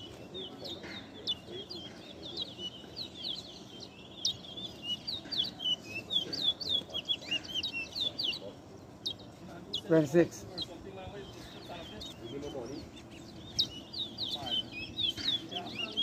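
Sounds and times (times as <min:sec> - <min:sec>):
finch singing whistled notes: 0:00.0 - 0:16.0.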